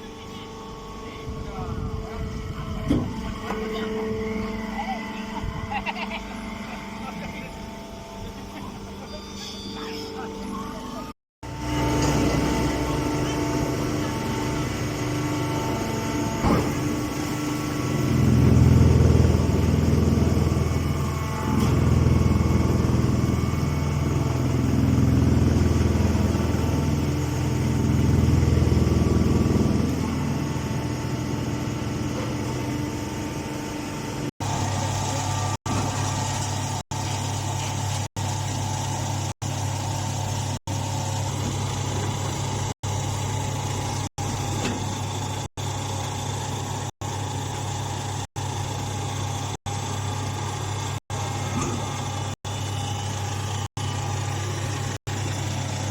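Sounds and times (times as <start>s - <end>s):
baler machine hum: 0.0s - 55.9s.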